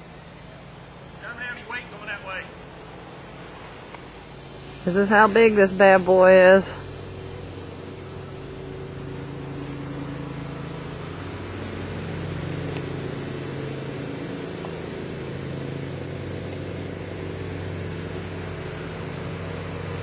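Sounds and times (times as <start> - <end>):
engine running steadily: 0.0 - 20.0
high-pitched insect buzz: 2.5 - 20.0.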